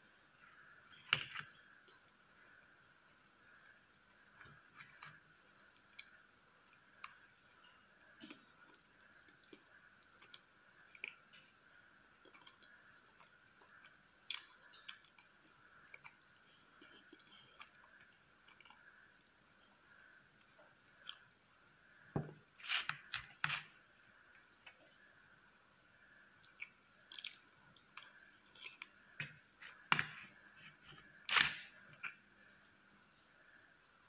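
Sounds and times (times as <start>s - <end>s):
soft chewing: 3.5s - 25.2s, 26.4s - 32.7s.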